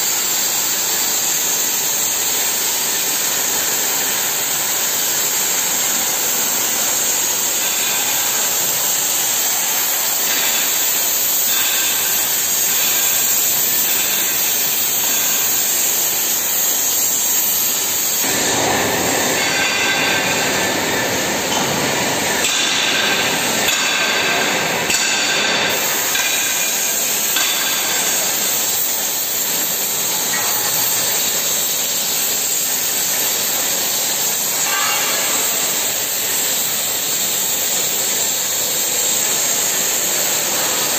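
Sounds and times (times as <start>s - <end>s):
torch cutting steel hiss: 0.0s - 40.9s.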